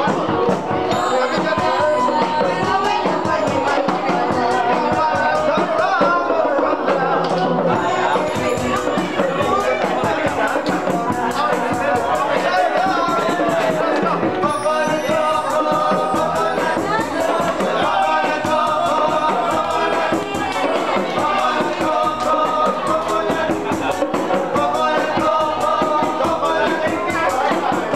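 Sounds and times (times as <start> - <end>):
percussive beat: 0.0 - 27.9
voices singing together: 0.0 - 27.9.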